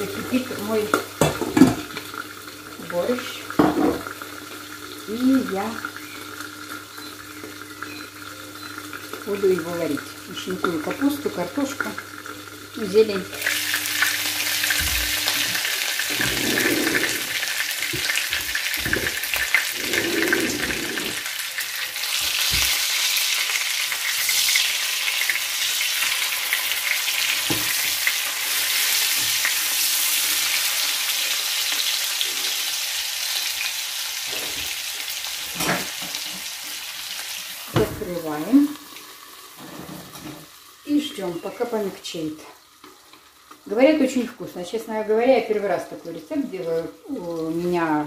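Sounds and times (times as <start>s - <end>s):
cabbage sizzling in a pan: 0.0s - 48.0s.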